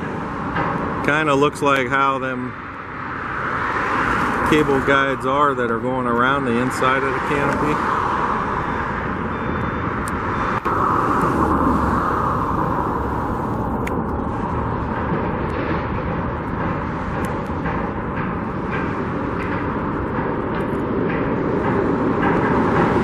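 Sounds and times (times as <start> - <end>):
road traffic: 0.0 - 23.0
vehicle passing close: 0.0 - 23.0.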